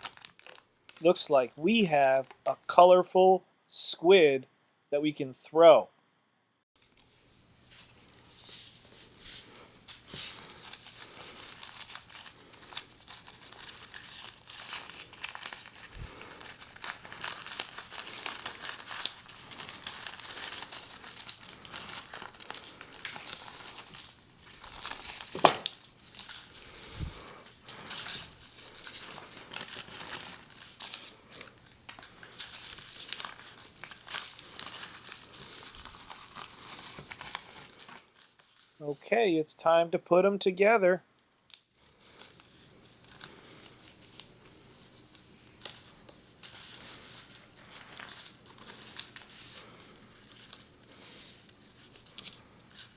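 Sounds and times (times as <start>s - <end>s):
plastic wrapping crinkling and tearing: 0.0s - 1.2s, 6.8s - 38.8s, 41.2s - 52.9s.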